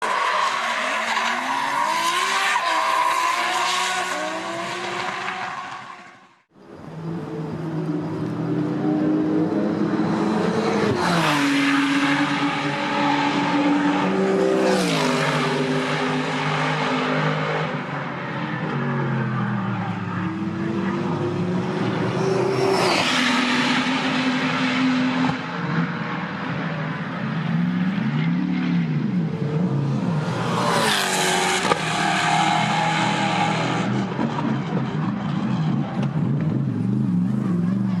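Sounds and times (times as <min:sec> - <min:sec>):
race car engines accelerating: 0:00.0 - 0:38.0.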